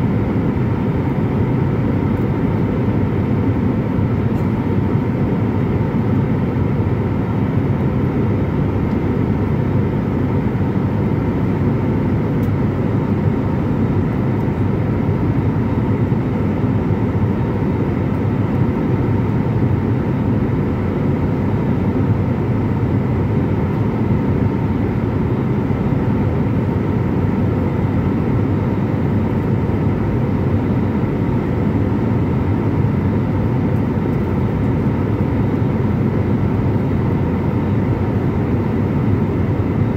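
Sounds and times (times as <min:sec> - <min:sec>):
faint steady whine: 0:00.0 - 0:39.9
jet engines and airflow in cabin: 0:00.0 - 0:39.9.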